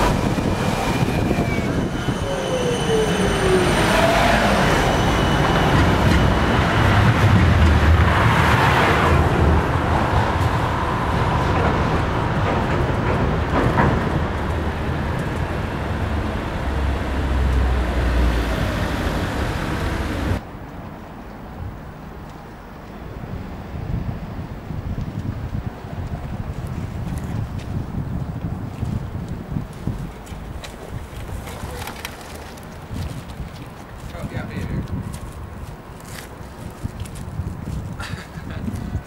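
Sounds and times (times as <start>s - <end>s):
street traffic rumble: 0.0s - 39.0s
tram passing on rails: 0.0s - 39.0s.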